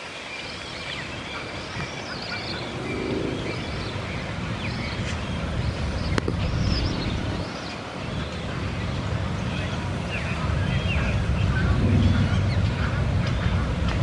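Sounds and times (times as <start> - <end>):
birds calling: 0.2 - 14.0
steady low rumble: 1.0 - 14.0.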